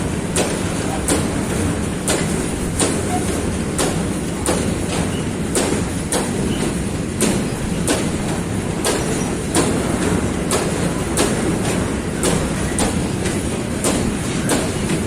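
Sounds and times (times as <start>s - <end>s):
train rumble: 0.0s - 15.0s
train wheels clicking over rail joints: 0.0s - 15.0s.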